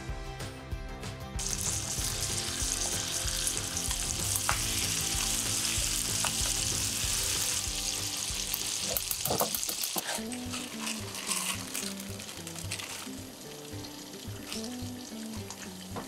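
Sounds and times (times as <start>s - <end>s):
chicken sizzling in oil: 1.4s - 16.0s.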